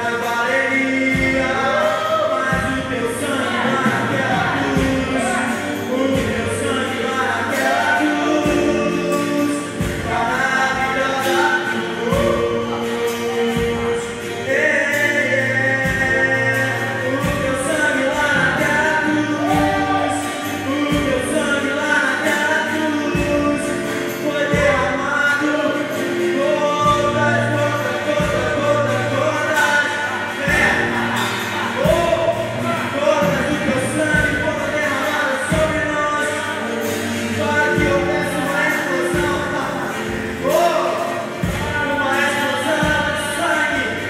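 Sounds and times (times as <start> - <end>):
voices singing gospel music: 0.0 - 44.0.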